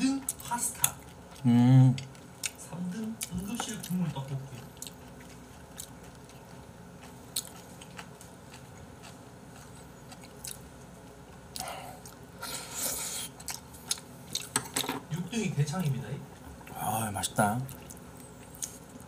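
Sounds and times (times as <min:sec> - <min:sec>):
person chewing with wet mouth sounds: 0:00.1 - 0:14.6, 0:16.3 - 0:19.0.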